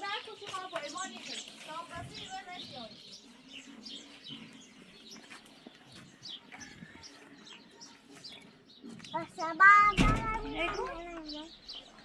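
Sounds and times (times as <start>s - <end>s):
small birds chirping faintly: 0.0s - 12.0s.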